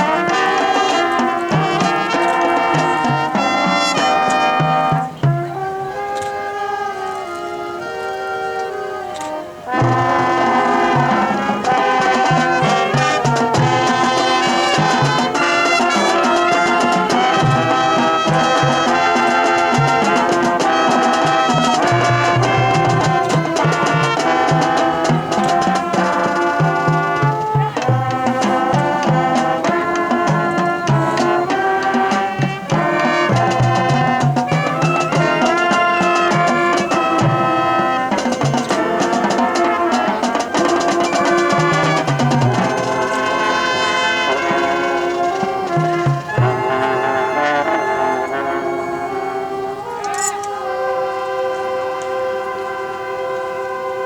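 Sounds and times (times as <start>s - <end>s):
marching drums: 0.0s - 8.0s, 8.7s - 54.0s
brass chords: 0.0s - 54.0s.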